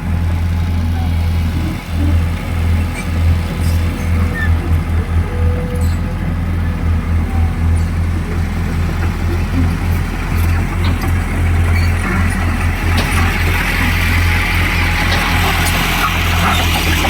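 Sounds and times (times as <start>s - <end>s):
excavator diesel engine throbbing: 0.0s - 17.0s.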